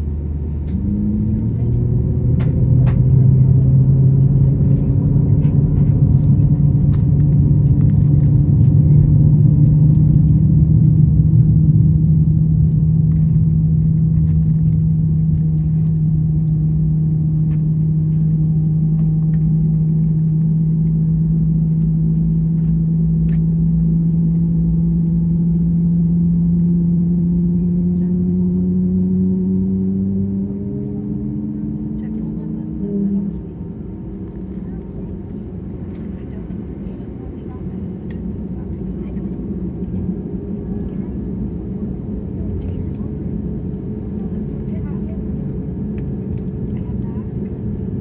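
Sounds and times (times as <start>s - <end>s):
jet engine drone from cabin: 0.0s - 48.0s.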